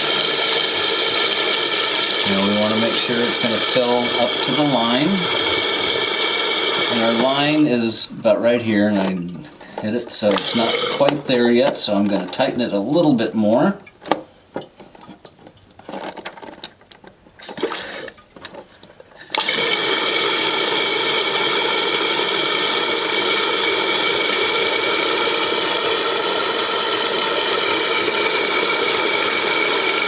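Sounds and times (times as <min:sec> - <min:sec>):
toilet tank refilling with water: 0:00.0 - 0:15.8, 0:17.4 - 0:18.4, 0:19.0 - 0:30.0.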